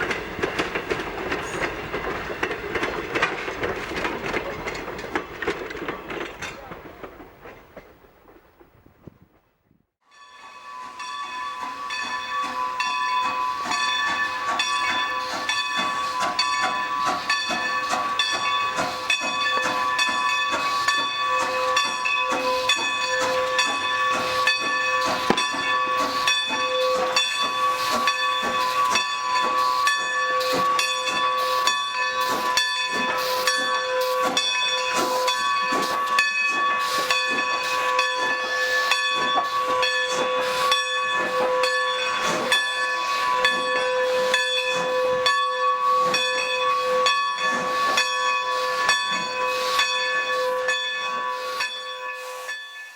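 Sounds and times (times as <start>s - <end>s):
steam hissing with whistle tones: 10.3s - 52.9s.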